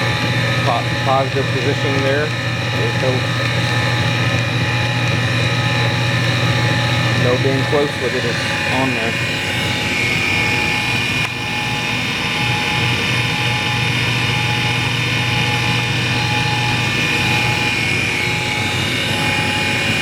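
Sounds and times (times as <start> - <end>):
valve refacer motor hum and whine: 0.0 - 20.0.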